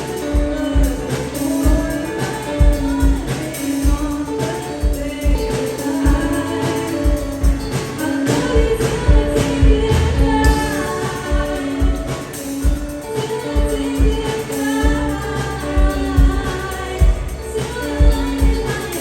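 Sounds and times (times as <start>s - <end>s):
live band playing pop song: 0.0s - 19.0s
steady drum beat: 0.0s - 19.0s.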